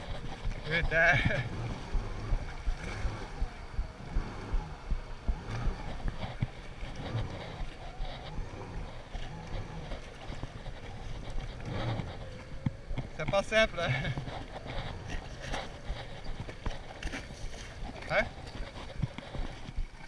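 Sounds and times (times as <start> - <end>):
hull thumping on waves: 0.0 - 20.0.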